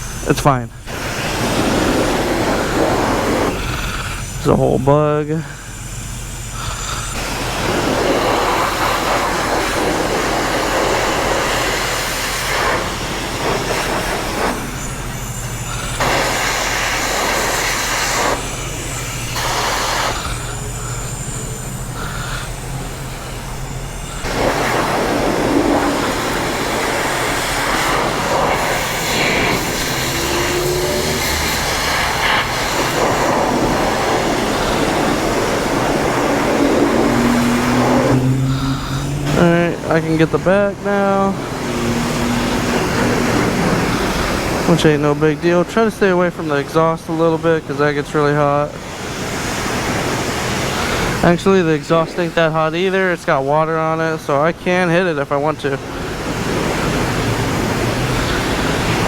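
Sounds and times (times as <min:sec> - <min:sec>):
low steady hum: 0:00.0 - 0:59.0
pressure washer spraying water: 0:00.0 - 0:59.0.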